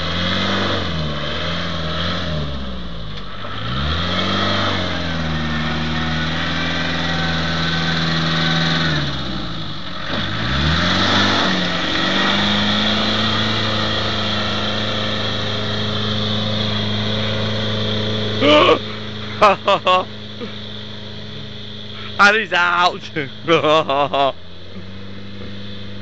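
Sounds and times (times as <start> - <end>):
engine revving hard: 0.0 - 26.0.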